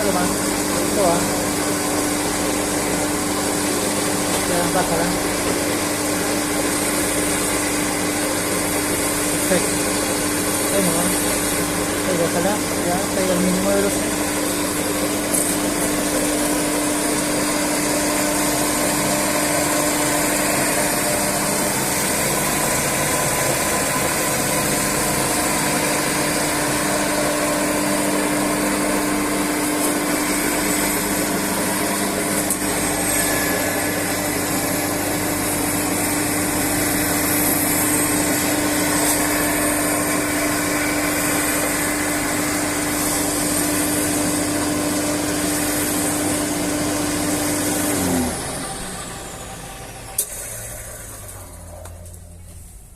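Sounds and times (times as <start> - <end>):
drum sander motor humming: 0.0 - 52.9.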